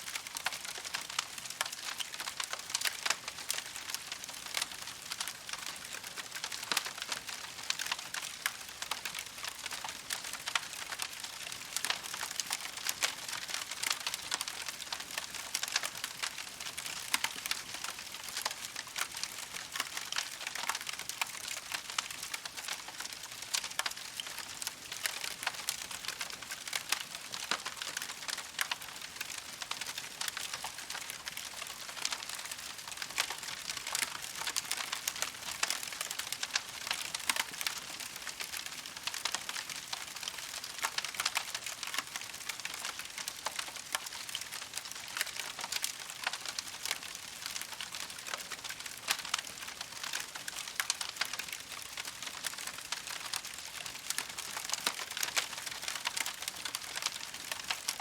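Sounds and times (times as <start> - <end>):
campfire crackling and popping: 0.1 - 58.0.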